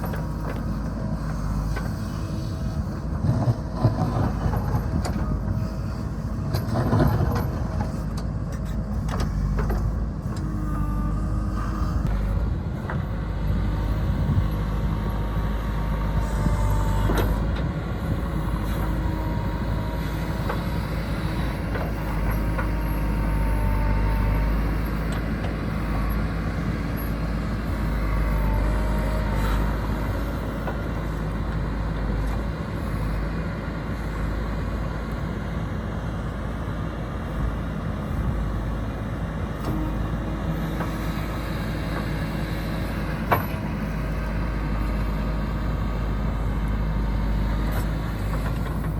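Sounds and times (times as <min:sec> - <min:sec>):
diesel engine of heavy machinery: 0:00.0 - 0:48.9
faint engine whine: 0:00.0 - 0:48.9.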